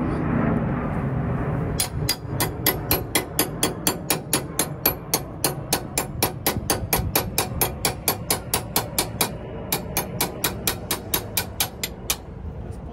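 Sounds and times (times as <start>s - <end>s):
low background rumble: 0.0s - 12.9s.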